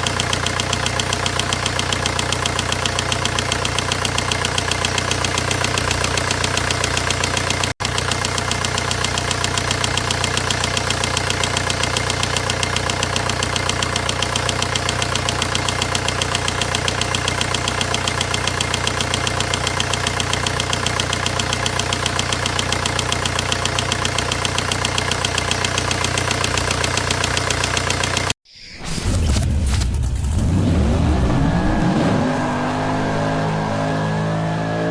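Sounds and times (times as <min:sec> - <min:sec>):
diesel engine idling with knocking: 0:00.0 - 0:28.4.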